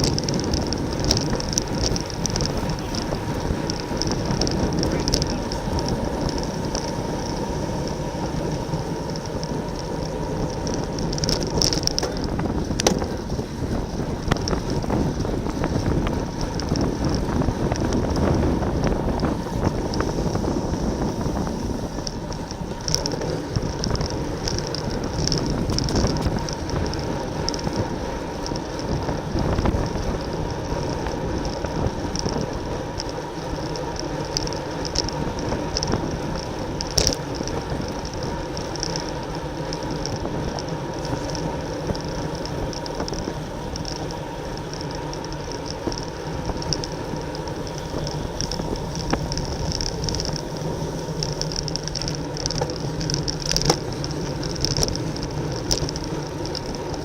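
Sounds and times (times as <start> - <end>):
bicycle tyre and drivetrain noise: 0.0 - 57.0
freehub ticking: 0.0 - 57.0
wind rushing over microphone: 0.0 - 57.0.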